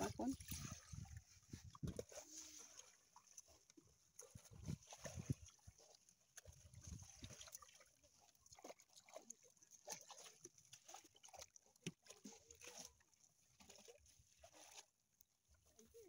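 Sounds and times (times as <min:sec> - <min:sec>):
splashing in shallow muddy water: 0:00.0 - 0:16.0.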